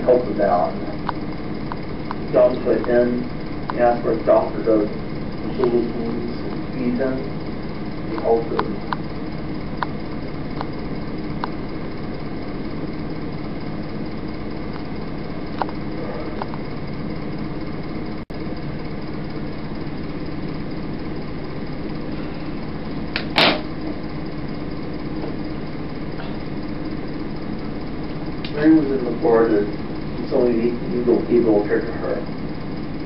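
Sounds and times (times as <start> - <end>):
videotape hum and hiss: 0.0 - 33.0.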